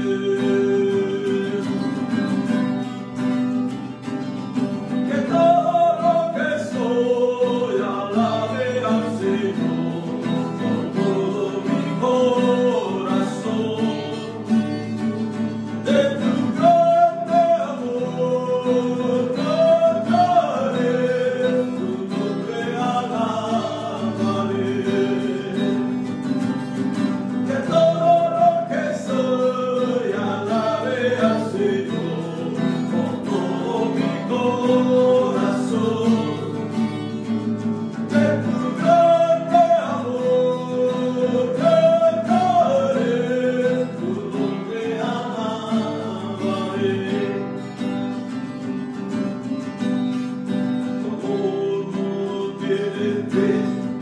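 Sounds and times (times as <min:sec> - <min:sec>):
man singing into a microphone: 0:00.0 - 0:02.4, 0:05.0 - 0:14.6, 0:15.7 - 0:26.2, 0:27.4 - 0:37.0, 0:38.0 - 0:47.6, 0:51.0 - 0:54.0
acoustic guitar strumming: 0:00.0 - 0:54.0.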